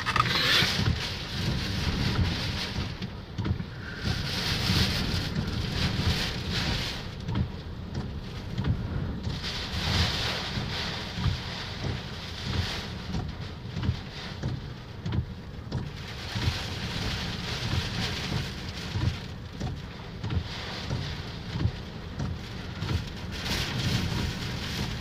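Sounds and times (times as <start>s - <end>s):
rain pelting a car: 0.0s - 25.0s
wind buffeting thumps: 0.0s - 25.0s.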